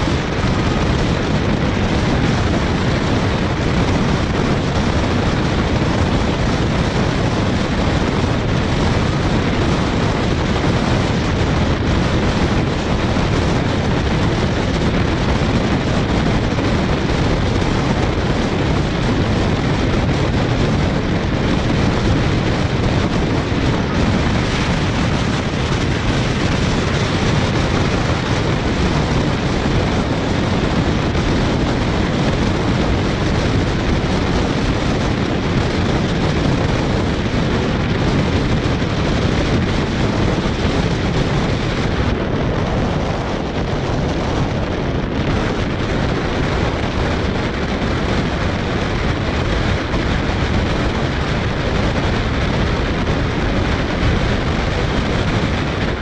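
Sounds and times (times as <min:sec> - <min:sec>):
train rumbling on track: 0:00.0 - 0:56.0
wind rushing over microphone: 0:00.0 - 0:56.0.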